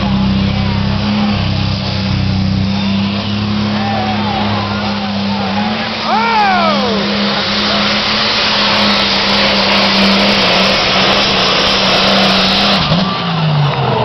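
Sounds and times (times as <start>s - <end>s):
diesel engine howling under load: 0.0s - 14.0s.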